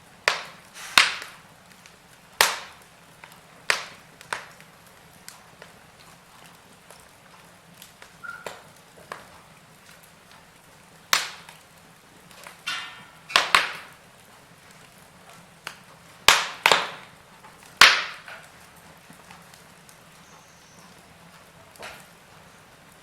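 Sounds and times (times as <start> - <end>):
fire hiss: 0.0 - 23.0
wood fire cracking and popping: 0.0 - 23.0.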